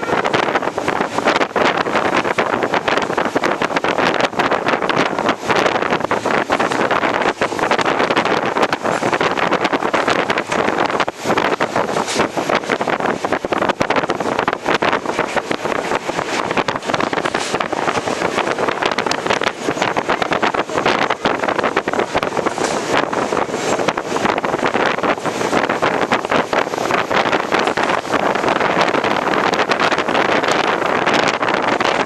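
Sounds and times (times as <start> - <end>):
train wheels clattering on rails: 0.0 - 32.0
wind rushing over microphone: 0.0 - 32.0.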